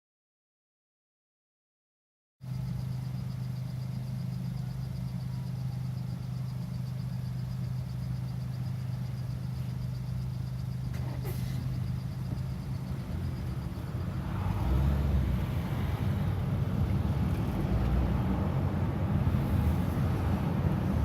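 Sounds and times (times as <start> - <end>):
car engine idling: 2.4 - 21.0.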